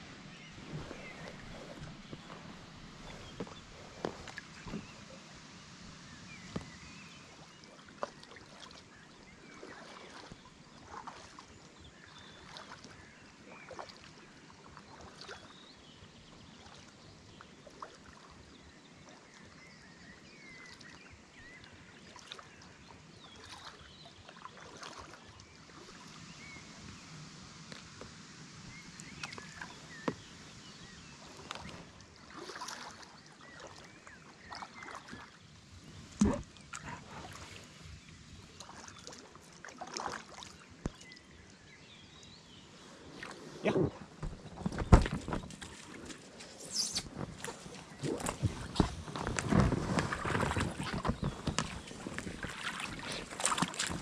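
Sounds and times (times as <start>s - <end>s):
paddle splashing in water: 0.0s - 27.0s, 27.6s - 54.0s.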